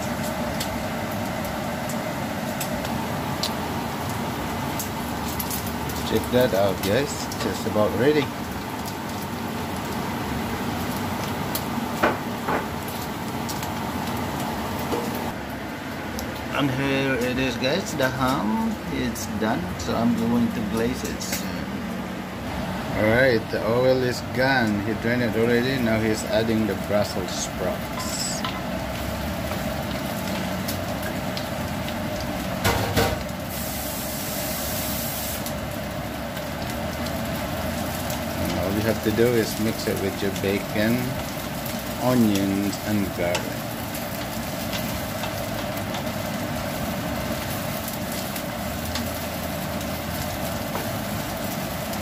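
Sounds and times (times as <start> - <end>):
bacon and onions sizzling: 0.0 - 52.0.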